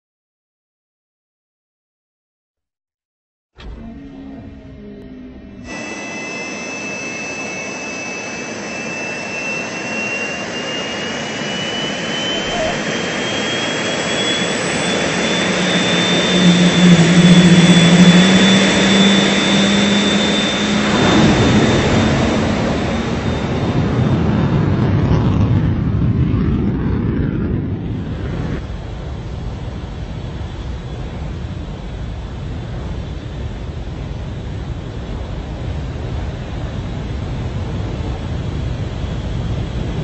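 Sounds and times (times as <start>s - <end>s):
afterburner takeoff roar: 3.6s - 40.0s
jet engines whining and roaring: 3.6s - 40.0s.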